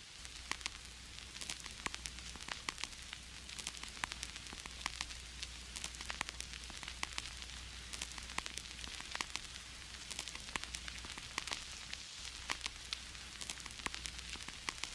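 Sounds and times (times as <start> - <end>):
vinyl record crackles and hiss: 0.0 - 14.9.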